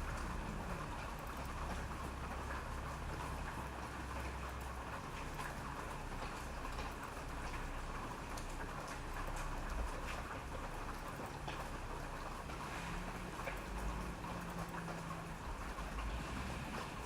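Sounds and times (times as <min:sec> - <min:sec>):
rain drops ticking: 0:00.0 - 0:17.0.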